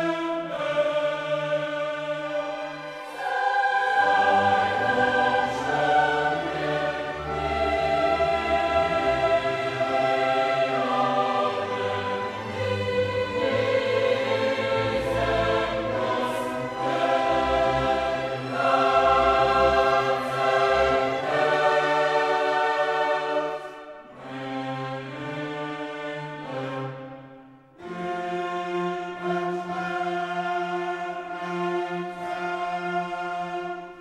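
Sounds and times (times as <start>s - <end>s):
choir singing with orchestra: 0.0s - 34.0s.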